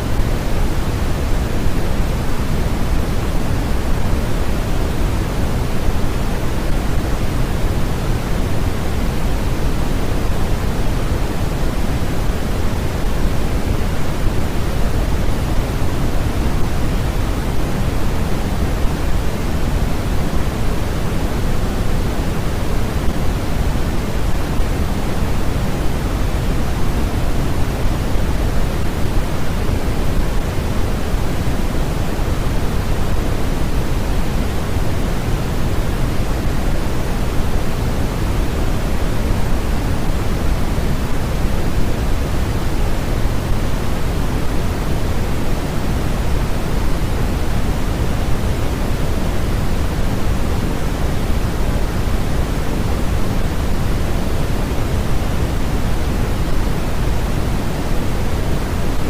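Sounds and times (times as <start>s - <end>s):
steady pink noise: 0.0s - 59.0s.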